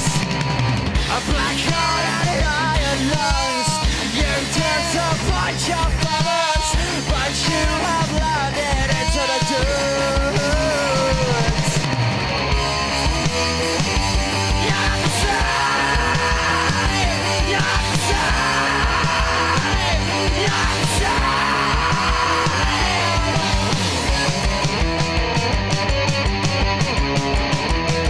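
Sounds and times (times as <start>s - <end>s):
punk rock song: 0.0s - 28.0s.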